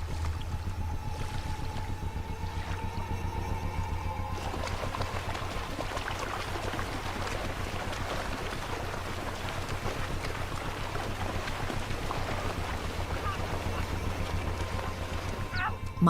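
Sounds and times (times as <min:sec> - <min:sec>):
water splashing and running: 0:00.0 - 0:03.2, 0:04.0 - 0:16.0
steady low hum: 0:00.0 - 0:16.0.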